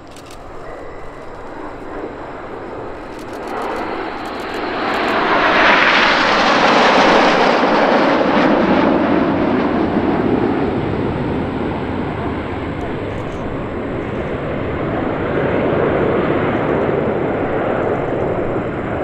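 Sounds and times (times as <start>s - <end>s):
jets passing in formation: 0.0s - 19.0s.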